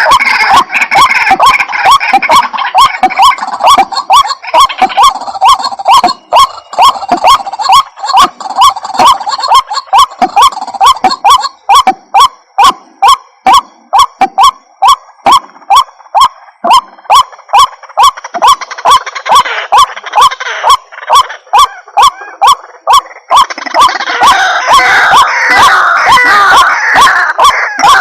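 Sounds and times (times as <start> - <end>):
overlapping bird calls: 0.0 - 28.0
waterhen calling: 0.0 - 28.0.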